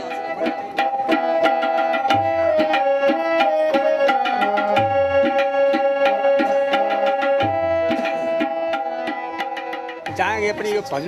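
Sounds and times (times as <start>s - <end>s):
held melody notes: 0.0s - 11.0s
tabla beat: 0.0s - 11.0s.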